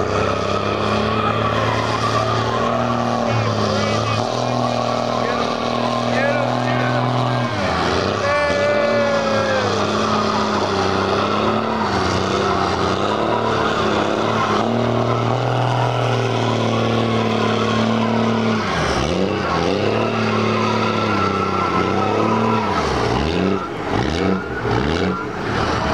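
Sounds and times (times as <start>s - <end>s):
truck engines revving high: 0.0s - 25.9s.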